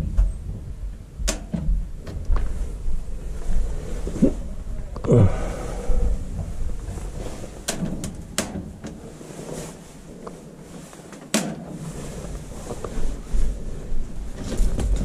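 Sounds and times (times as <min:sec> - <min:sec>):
low uneven rumble: 0:00.0 - 0:15.0.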